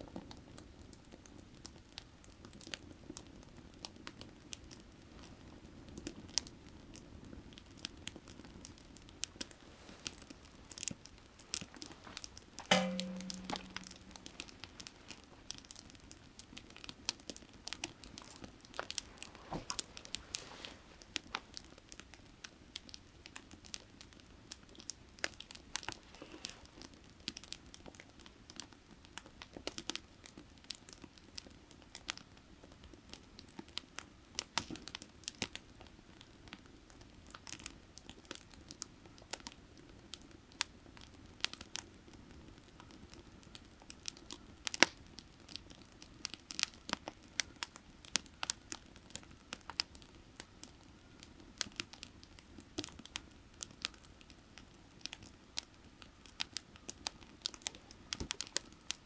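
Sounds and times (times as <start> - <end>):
firewood crackling and popping: 0.0 - 59.0.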